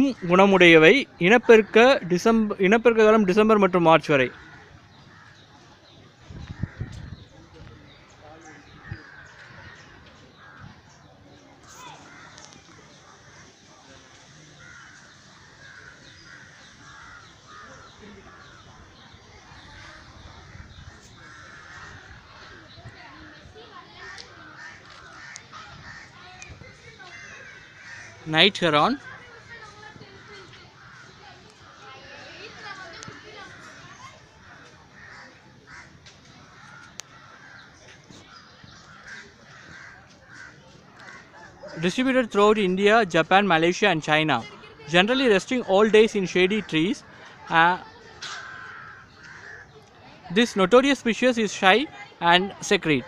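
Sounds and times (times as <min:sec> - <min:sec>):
birds calling roughly: 0:00.0 - 0:53.0
faint outdoor background: 0:00.0 - 0:53.0.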